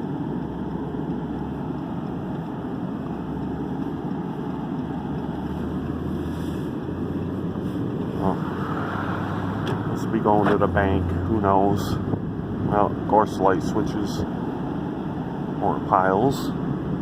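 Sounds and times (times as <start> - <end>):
low engine hum: 0.0 - 17.0
tyre and road rumble: 0.0 - 17.0.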